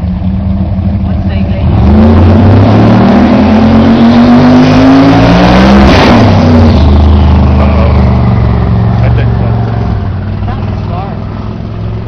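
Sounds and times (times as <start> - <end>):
drag car engine at hard throttle: 0.0 - 12.0.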